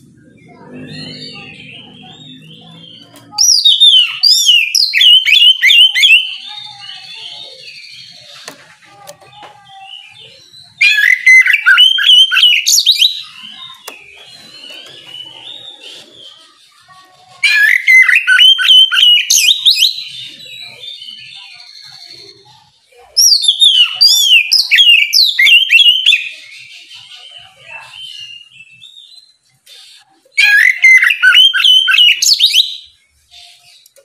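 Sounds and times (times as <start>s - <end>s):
songbird whistling song: 0.2s - 16.8s, 17.4s - 22.5s, 23.2s - 34.0s.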